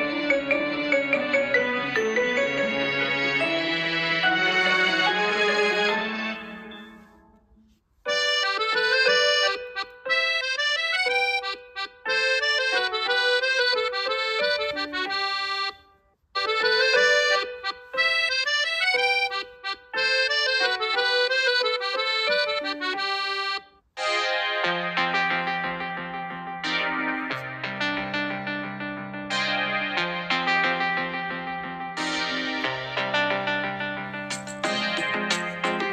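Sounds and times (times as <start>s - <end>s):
ringtone melody with chords: 0.0s - 35.9s.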